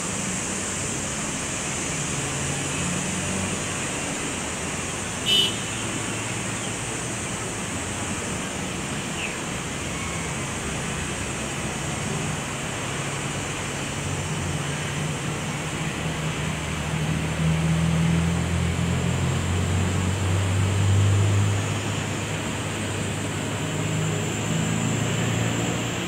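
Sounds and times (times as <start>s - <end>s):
distant traffic: 0.0s - 26.0s.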